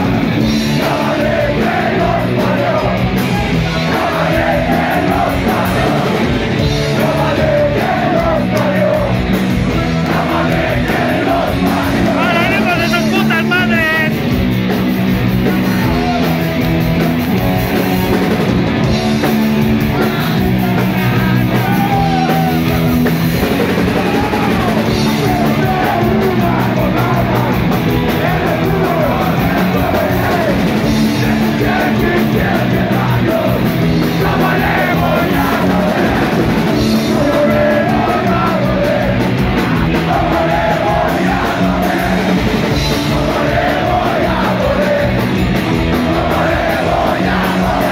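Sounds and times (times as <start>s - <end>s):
shouted lead vocal: 0.0s - 14.2s, 15.4s - 16.5s, 19.8s - 47.9s
bass guitar: 0.0s - 47.9s
distorted electric guitar: 0.0s - 47.9s
drum kit: 0.0s - 47.9s.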